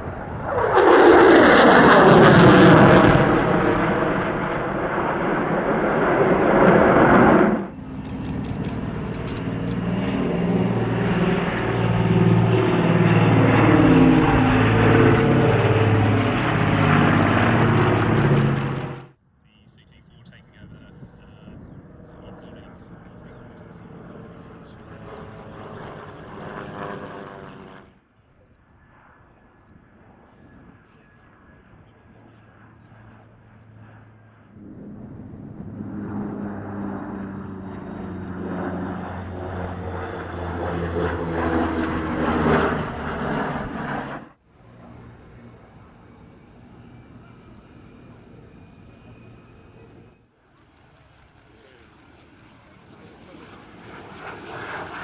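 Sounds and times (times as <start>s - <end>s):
jet engines whining: 0.0s - 27.9s, 29.9s - 55.0s
propeller aircraft drone: 0.0s - 55.0s
outdoor background noise: 3.8s - 55.0s.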